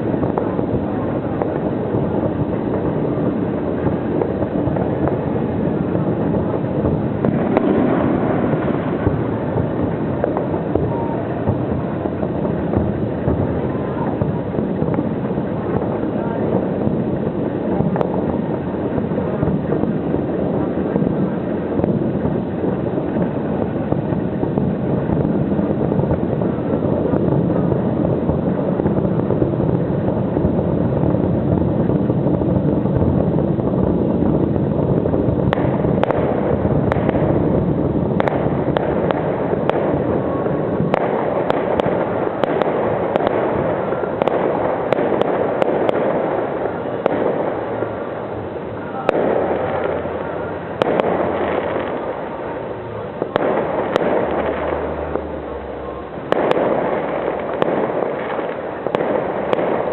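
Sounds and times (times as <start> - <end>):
fireworks bursts rumbling: 0.0 - 59.9
fireworks cracking and crackling: 0.0 - 59.9.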